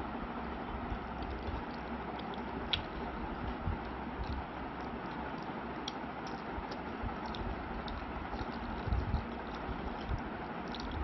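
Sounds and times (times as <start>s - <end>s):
fingers working food: 0.9s - 11.0s
food being chewed: 1.0s - 11.0s.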